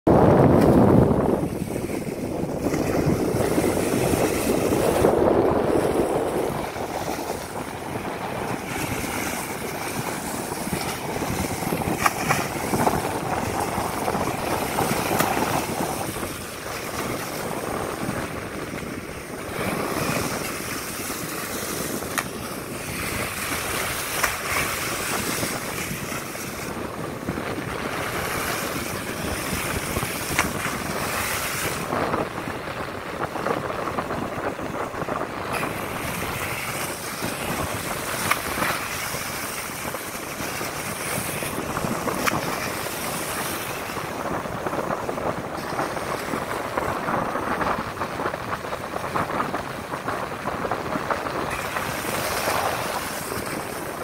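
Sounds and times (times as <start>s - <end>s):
wind buffeting microphone: 0.0s - 54.0s
sea water rushing: 0.1s - 54.0s.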